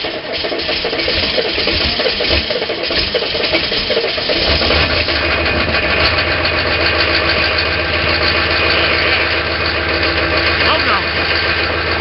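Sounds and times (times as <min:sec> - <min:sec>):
diesel engine cranking and idling roughly: 0:00.0 - 0:12.0.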